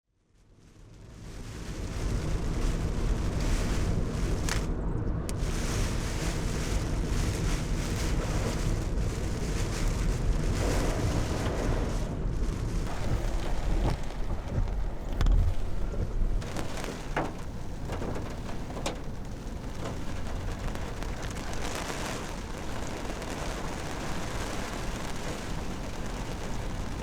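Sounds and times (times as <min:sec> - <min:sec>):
strong wind and rain: 0:00.4 - 0:27.0
wind buffeting microphone: 0:01.5 - 0:27.0.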